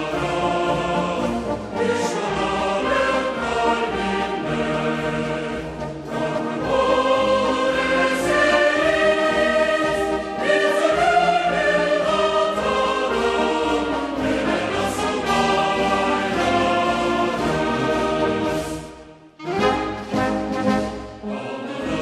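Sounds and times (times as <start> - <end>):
choir singing sustained chords: 0.0 - 22.0.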